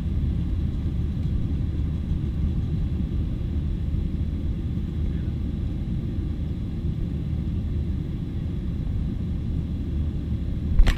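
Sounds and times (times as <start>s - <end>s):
jet engine rumble in cabin: 0.0s - 10.9s.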